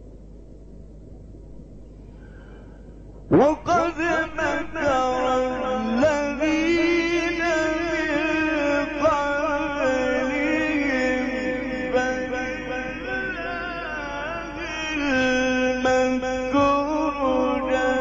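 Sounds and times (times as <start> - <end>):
man chanting melismatic recitation: 3.3 - 18.0.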